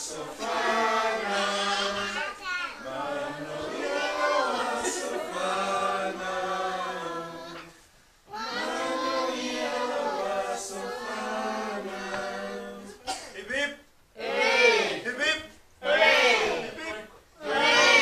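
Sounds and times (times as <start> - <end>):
group singing unaccompanied: 0.0 - 13.2, 14.1 - 15.2, 15.8 - 18.0.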